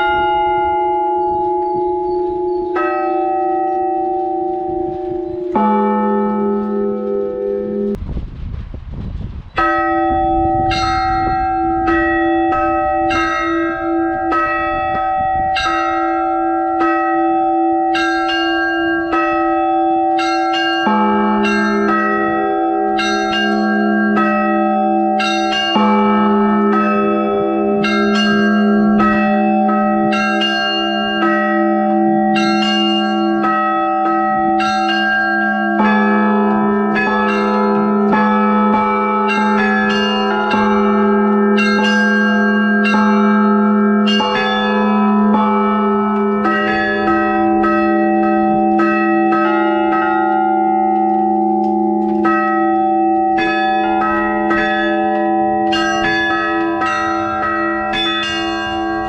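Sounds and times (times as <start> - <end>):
church bells ringing: 0.0 - 8.0, 9.5 - 59.0
deep bell ringing: 0.0 - 8.0, 9.6 - 59.0.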